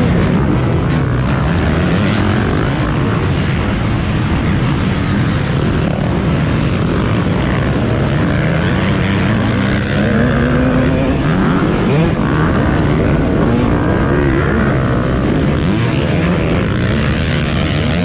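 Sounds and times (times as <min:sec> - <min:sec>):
dirt bikes racing: 0:00.0 - 0:18.0
two-stroke dirt bike engine revving: 0:00.0 - 0:18.0.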